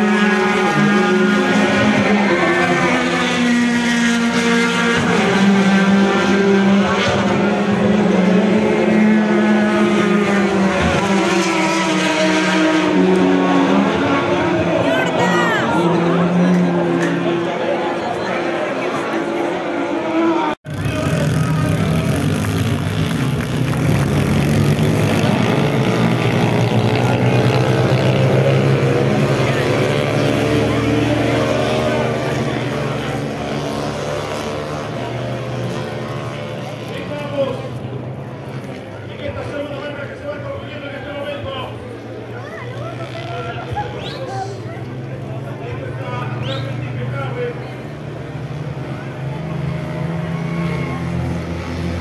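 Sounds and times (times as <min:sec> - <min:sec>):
racing car engines: 0:00.0 - 0:52.0.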